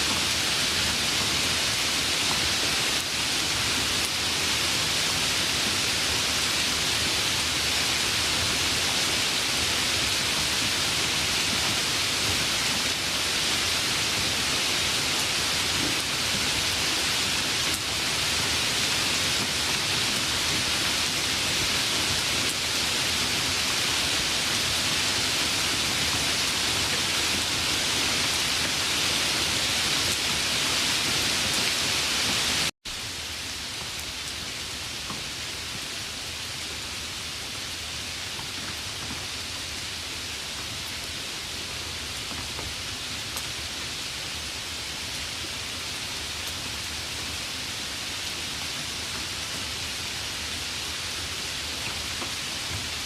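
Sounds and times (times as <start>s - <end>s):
rain hissing: 0.0s - 53.0s.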